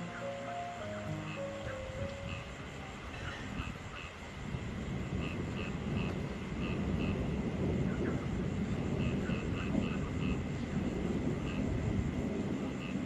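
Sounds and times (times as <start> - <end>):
frogs calling: 0.0 - 13.0
steady rain: 0.0 - 13.0.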